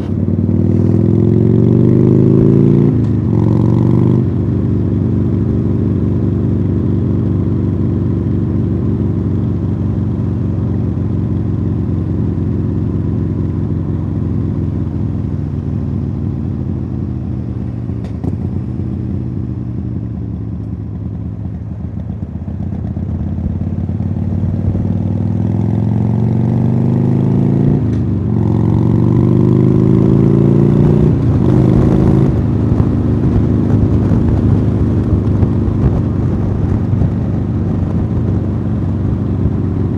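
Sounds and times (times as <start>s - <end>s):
motorcycle engine revving: 0.0s - 21.3s, 22.1s - 39.9s.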